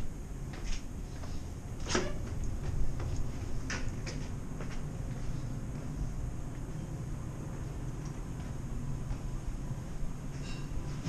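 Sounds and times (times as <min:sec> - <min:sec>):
footsteps going down stairs: 0:00.0 - 0:11.0
low rumble of ship engines: 0:00.0 - 0:11.0.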